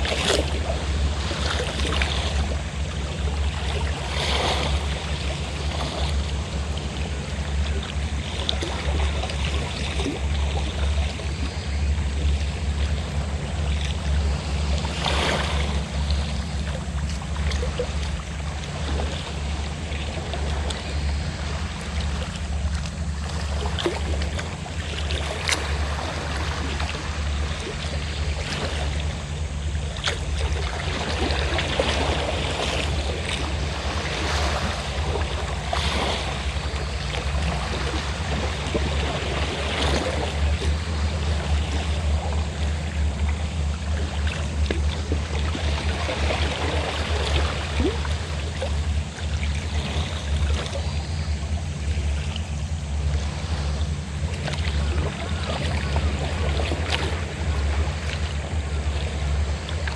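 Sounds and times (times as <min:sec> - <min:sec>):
boat engine throbbing: 0:00.0 - 0:59.9
sea waves splashing: 0:00.0 - 0:59.9.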